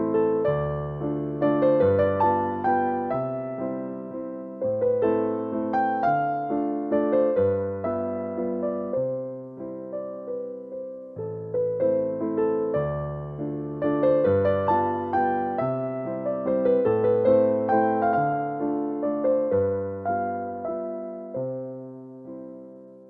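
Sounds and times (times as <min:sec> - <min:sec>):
slow solo piano piece: 0:00.0 - 0:23.0.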